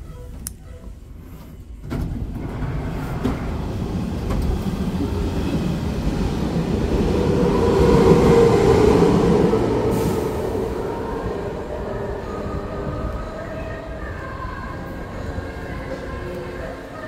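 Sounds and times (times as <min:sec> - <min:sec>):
subway train rumbling on tracks: 0:00.0 - 0:17.0.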